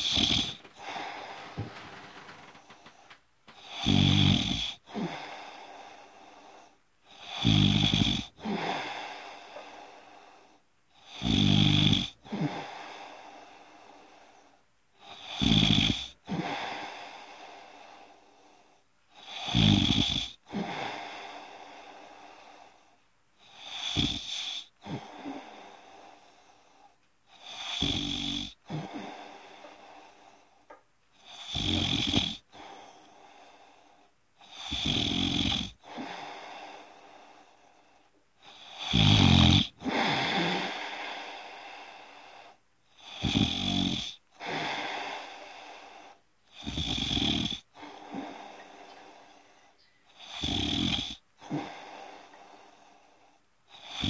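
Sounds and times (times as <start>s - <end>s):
person snoring: 0.0s - 10.3s, 11.0s - 14.3s, 15.0s - 18.0s, 19.2s - 22.8s, 23.4s - 26.4s, 27.3s - 30.4s, 31.2s - 37.7s, 38.4s - 54.0s.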